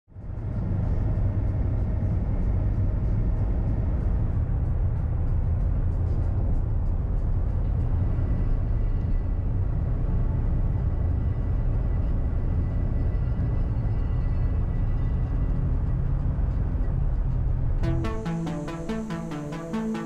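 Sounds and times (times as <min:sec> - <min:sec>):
car engine and tyre rumble: 0:00.2 - 0:17.8.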